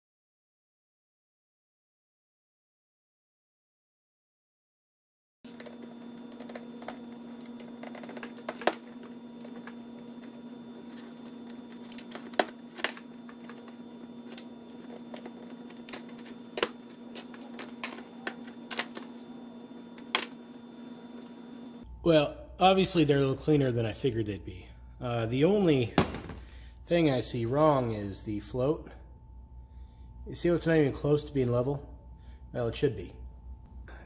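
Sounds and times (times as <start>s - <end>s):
steady low hum: 5.5s - 34.0s.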